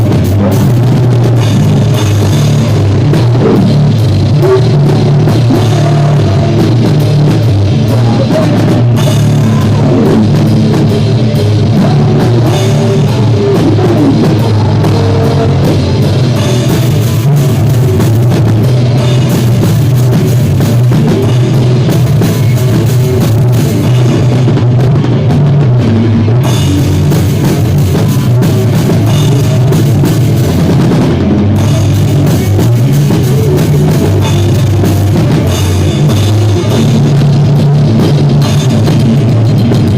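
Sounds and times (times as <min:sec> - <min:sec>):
drum kit: 0:00.0 - 0:39.9
rock band playing live: 0:00.0 - 0:39.9.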